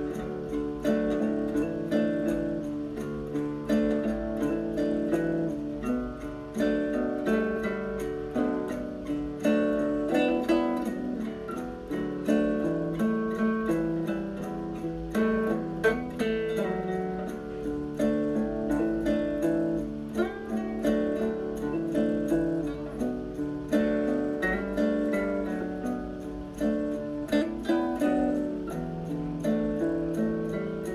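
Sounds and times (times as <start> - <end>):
acoustic guitar strumming: 0.0 - 30.9.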